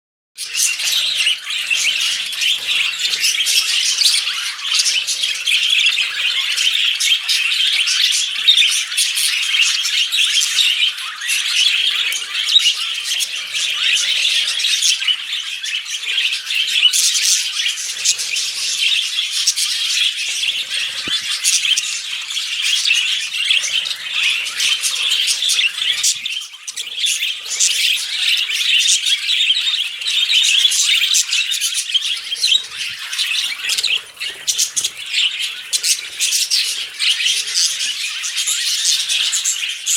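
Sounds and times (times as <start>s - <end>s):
budgerigars chattering and warbling: 0.4s - 39.9s.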